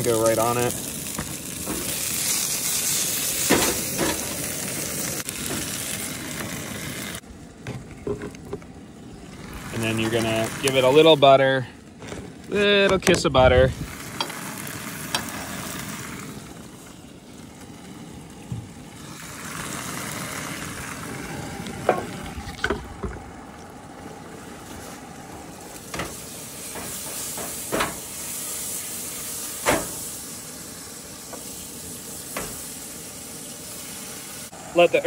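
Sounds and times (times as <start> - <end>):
fish sizzling in frying pan: 0.0 - 7.2, 8.7 - 11.6, 12.3 - 35.0.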